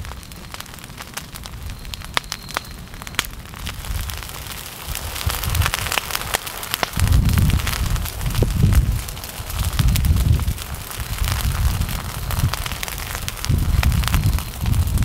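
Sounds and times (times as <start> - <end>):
brush crackling and popping: 0.0 - 15.0
low rushing of flame: 0.0 - 15.0.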